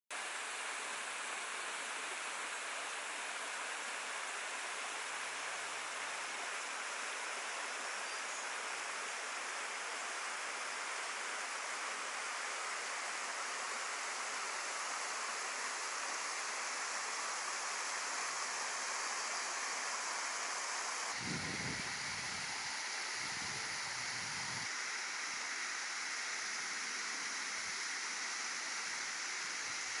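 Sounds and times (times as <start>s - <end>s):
creek water rushing: 0.2s - 30.0s.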